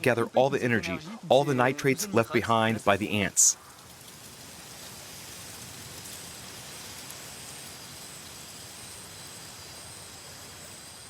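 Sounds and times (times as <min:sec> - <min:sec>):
rain-like forest hiss: 0:00.1 - 0:11.0.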